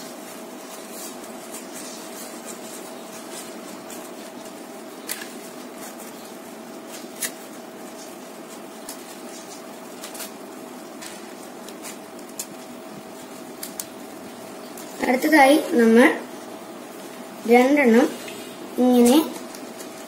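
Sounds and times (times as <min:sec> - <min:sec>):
leaves rustling: 0:00.0 - 0:20.0
steady background hum: 0:00.0 - 0:20.0.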